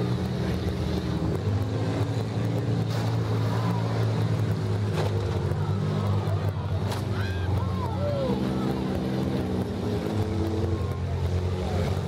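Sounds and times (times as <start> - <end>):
engines rumbling: 0.0 - 12.0.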